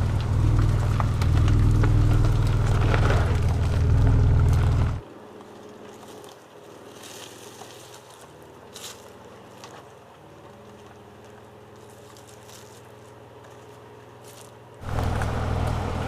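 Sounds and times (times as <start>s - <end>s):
engine running low hum: 0.0s - 16.0s.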